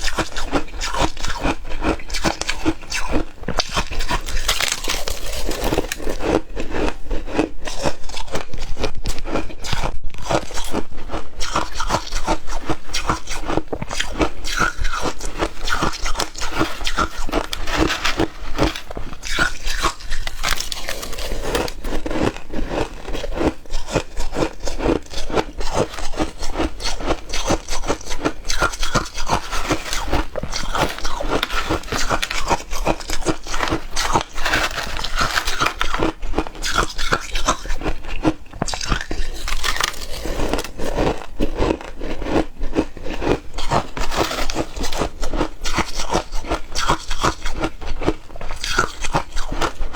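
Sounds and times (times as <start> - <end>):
person chewing ice: 0.0 - 49.9.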